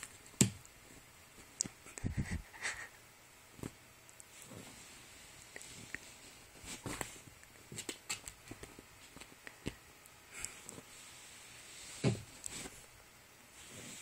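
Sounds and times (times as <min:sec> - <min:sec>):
rustling on a knit blanket: 0:00.8 - 0:09.4, 0:10.4 - 0:14.0.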